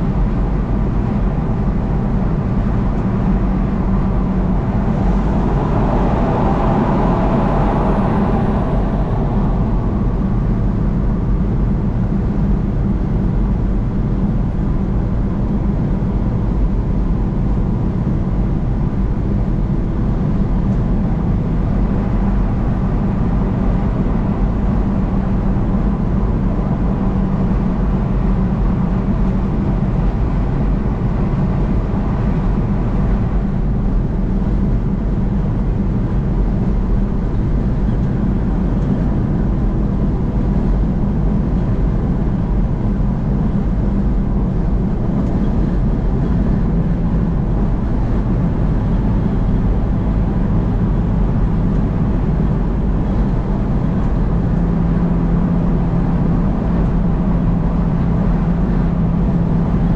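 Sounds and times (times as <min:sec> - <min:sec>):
car road noise on highway: 0:00.0 - 0:59.9.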